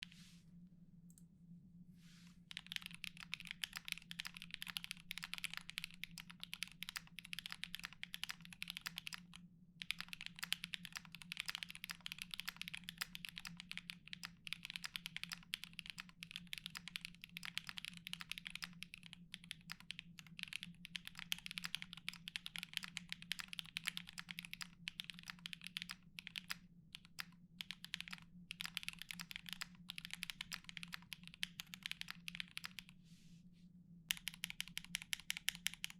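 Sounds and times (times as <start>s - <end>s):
mechanical keyboard typing: 2.5s - 32.9s, 34.1s - 35.9s.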